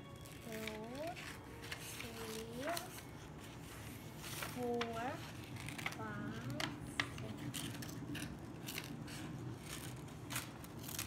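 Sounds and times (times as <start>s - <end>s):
scissors snipping paper: 0.2s - 3.0s, 4.3s - 11.0s
paper crinkling: 0.2s - 11.0s.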